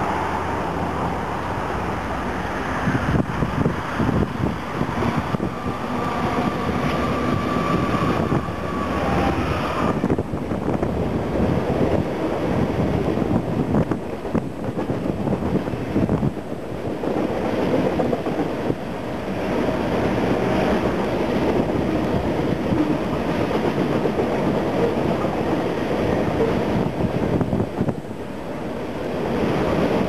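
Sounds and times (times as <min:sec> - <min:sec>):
freight train rumbling and rattling: 0:00.0 - 0:30.0.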